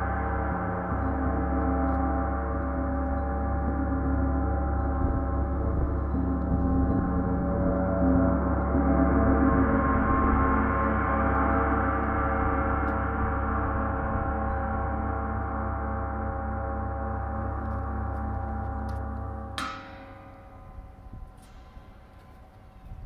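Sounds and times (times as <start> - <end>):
gong played with mallet: 0.0 - 23.0.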